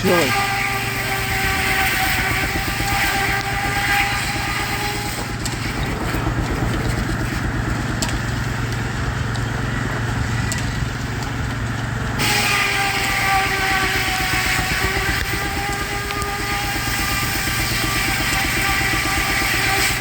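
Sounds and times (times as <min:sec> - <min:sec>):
steam traction engine pulsing: 0:00.0 - 0:20.0.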